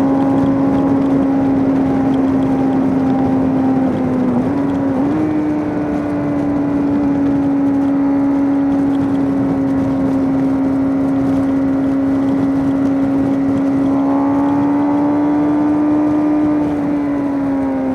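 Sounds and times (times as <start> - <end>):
motorcycle engine at high revs: 0.0 - 17.9.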